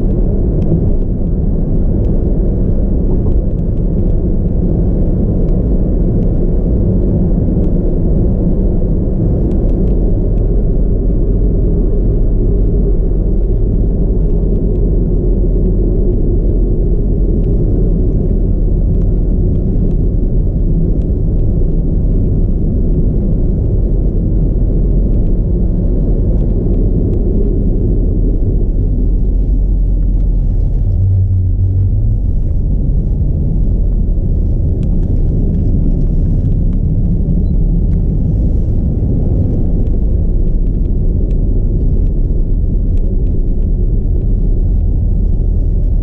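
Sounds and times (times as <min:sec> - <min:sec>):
car engine and road noise: 0:00.0 - 0:46.0
strong low hum: 0:00.0 - 0:46.0.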